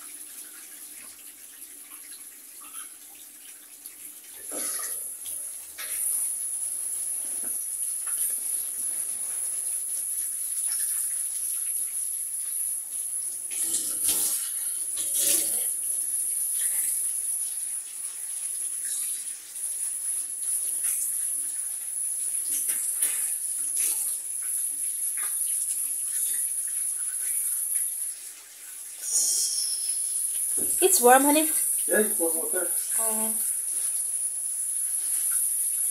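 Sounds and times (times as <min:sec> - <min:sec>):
shower water spraying: 0:00.0 - 0:35.9.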